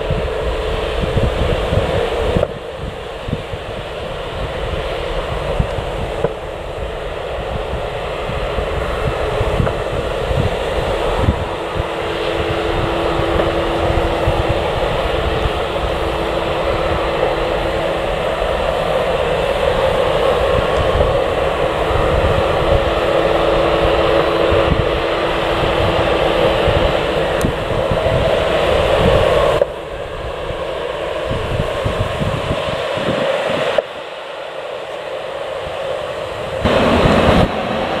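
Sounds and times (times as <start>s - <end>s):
jet engines whining: 0.0s - 38.0s
wind rumbling on microphone: 0.0s - 38.0s.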